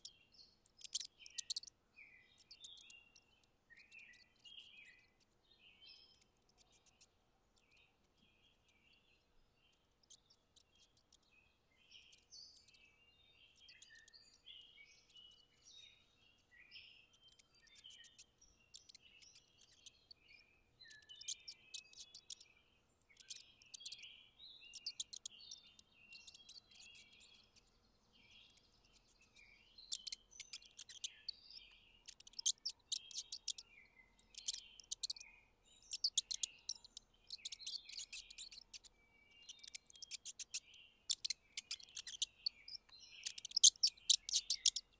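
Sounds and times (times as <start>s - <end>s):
sharp chattering clicks: 0.0s - 1.7s, 2.4s - 5.3s, 6.0s - 12.8s, 13.5s - 16.4s, 17.0s - 24.1s, 24.7s - 44.9s
mice squeaking: 0.0s - 24.1s, 24.7s - 44.9s.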